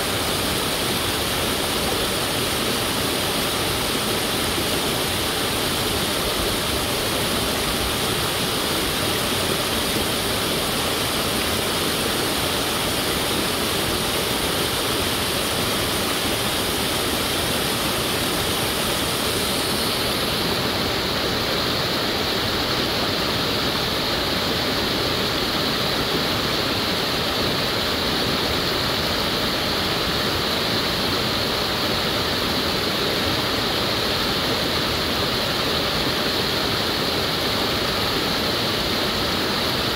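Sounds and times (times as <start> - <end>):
waterfall over rock: 0.0 - 39.9.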